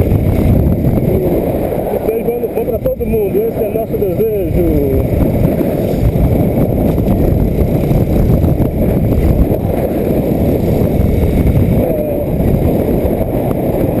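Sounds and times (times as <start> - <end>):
motorcycle running: 0.0 - 14.0
wind buffeting microphone: 0.0 - 14.0.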